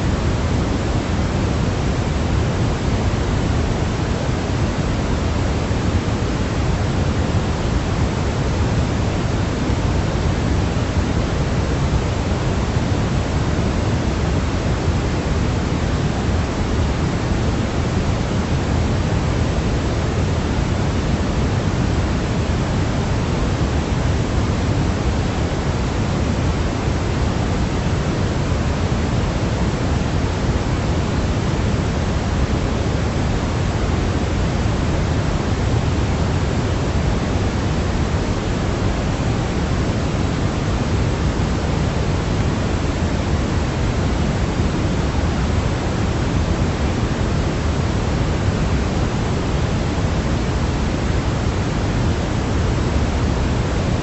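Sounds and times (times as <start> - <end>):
low white noise hiss: 0.0 - 54.0.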